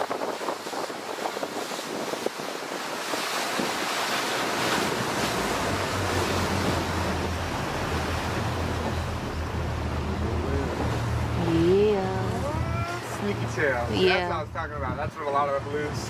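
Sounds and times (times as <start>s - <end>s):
wind on microphone: 0.0s - 13.3s
open sea wash: 0.0s - 16.0s.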